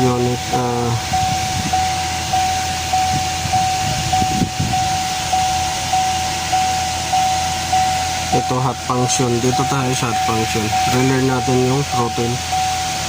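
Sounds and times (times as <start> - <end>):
car warning chime dinging: 0.0 - 13.0.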